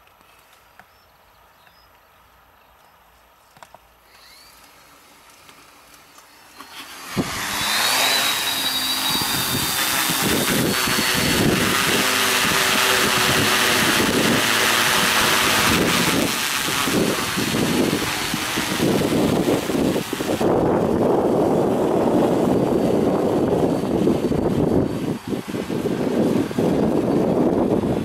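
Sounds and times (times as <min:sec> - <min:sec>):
quadcopter propeller buzz: 0:04.0 - 0:28.0.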